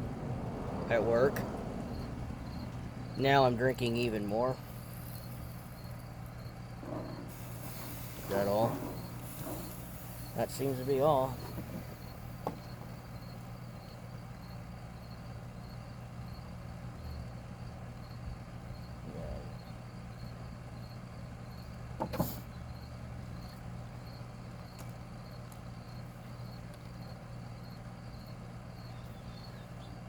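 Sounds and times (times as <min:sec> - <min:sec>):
insect chirping: 0:00.3 - 0:30.0.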